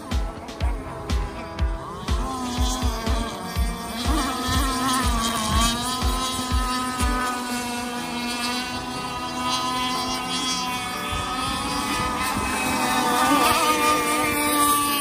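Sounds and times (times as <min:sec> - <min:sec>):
radio-controlled boat motors droning: 0:00.0 - 0:15.0.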